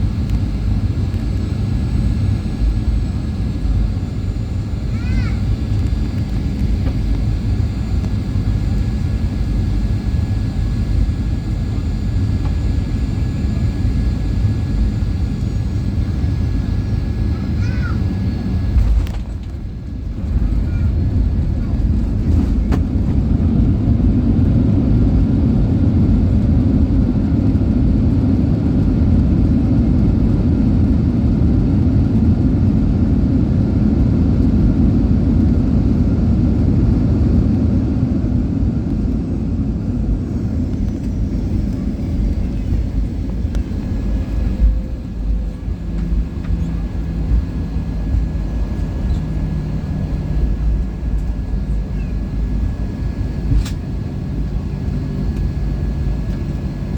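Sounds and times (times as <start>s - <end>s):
jet engine roar inside cabin: 0.0s - 56.9s.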